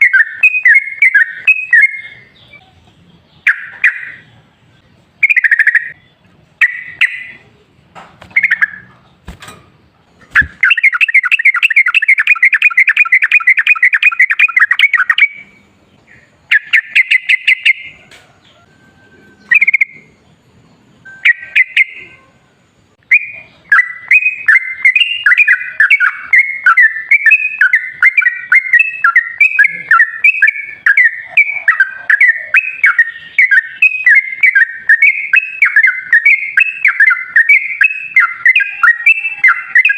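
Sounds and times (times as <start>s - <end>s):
bird calling and trilling: 0.0s - 9.4s, 10.1s - 22.4s, 23.0s - 39.9s.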